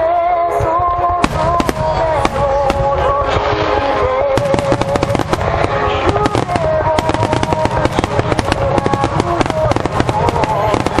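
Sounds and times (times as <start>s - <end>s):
music with slow held melody: 0.0s - 11.0s
fireworks bursting and crackling: 1.2s - 11.0s.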